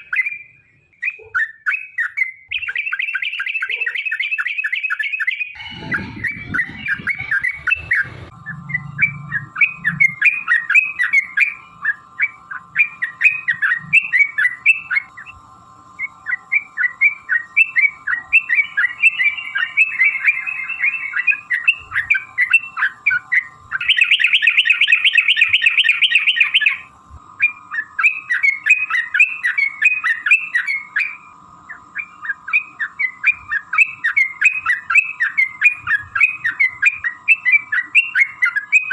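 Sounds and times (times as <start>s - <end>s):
bird singing bubbly chirps: 0.0s - 15.4s, 16.0s - 38.9s.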